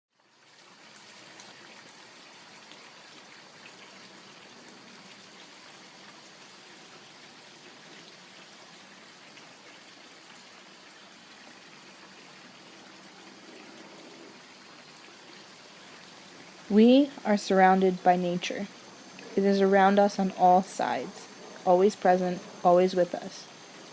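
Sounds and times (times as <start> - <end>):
water trickling: 0.1 - 23.9.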